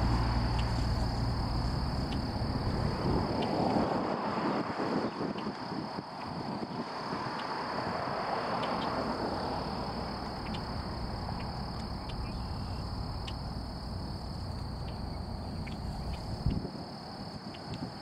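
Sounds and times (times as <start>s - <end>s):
distant jet engine rumble: 0.0s - 18.0s
faint insect chirps: 0.0s - 18.0s
high-pitched insect drone: 0.0s - 18.0s.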